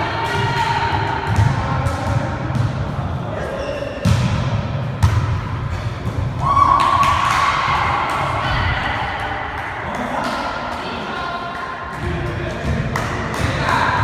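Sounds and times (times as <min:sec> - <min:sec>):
players' voices: 0:00.0 - 0:14.0
volleyball thuds in echoing gym: 0:00.0 - 0:14.0.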